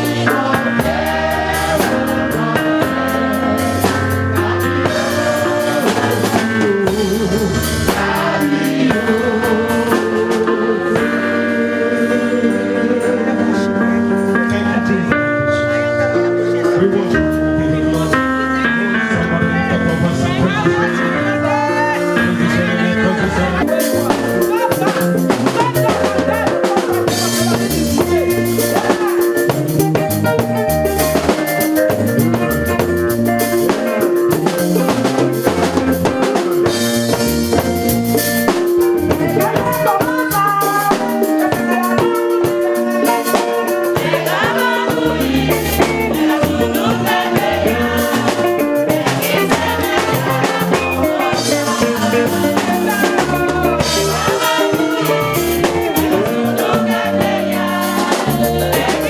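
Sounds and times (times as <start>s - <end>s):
worship band playing: 0.0s - 59.0s.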